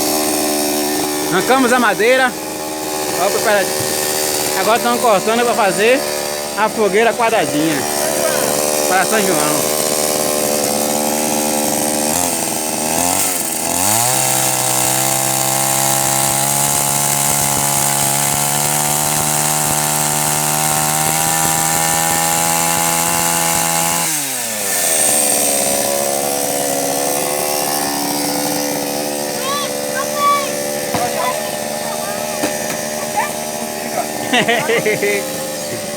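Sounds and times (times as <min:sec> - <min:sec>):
chainsaw cutting firewood: 0:00.0 - 0:35.9.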